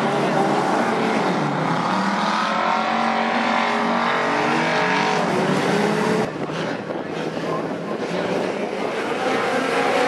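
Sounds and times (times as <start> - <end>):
racing car engines revving: 0.0 - 10.0.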